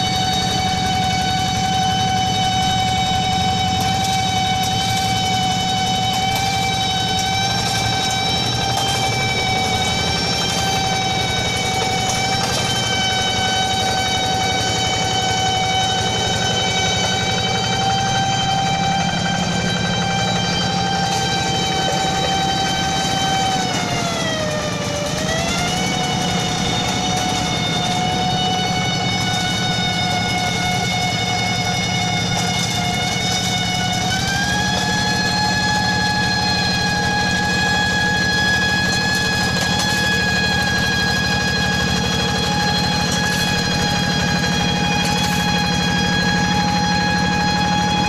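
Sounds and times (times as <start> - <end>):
high-pitched whine: 0.0 - 48.0
tractor engine chugging: 0.0 - 48.0.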